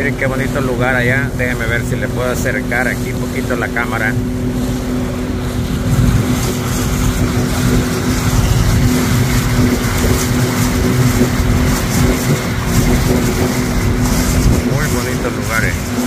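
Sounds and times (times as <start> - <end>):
boat motor running: 0.0 - 16.0
rush of wind and water: 0.0 - 16.0.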